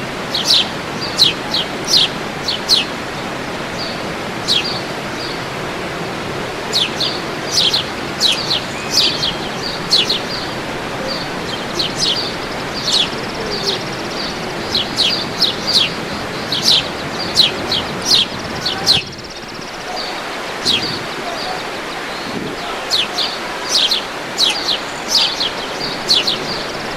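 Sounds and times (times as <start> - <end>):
birds chirping: 0.0 - 26.9
rush of falling water: 0.0 - 26.9.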